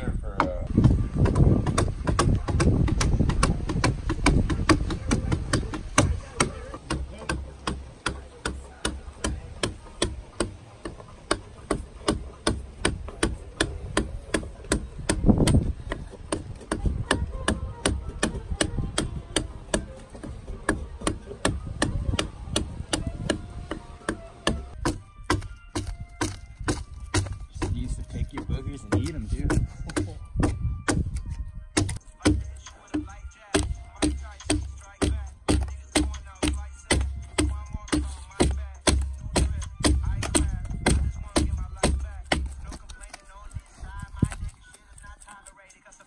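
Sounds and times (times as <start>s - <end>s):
adzes chopping wood: 0.4s - 43.4s.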